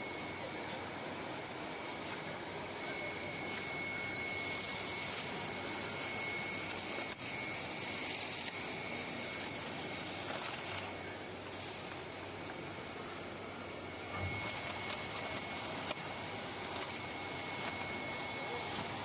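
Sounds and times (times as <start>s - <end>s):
high machine whine: 0.0s - 19.0s
milling machine whirring: 0.0s - 19.0s.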